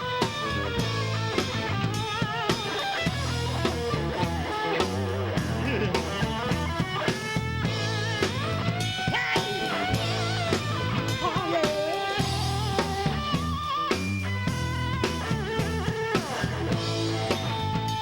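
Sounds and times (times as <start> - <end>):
bass guitar: 0.0 - 18.0
drum kit beat: 0.0 - 18.0
electric guitar lead: 0.0 - 18.0.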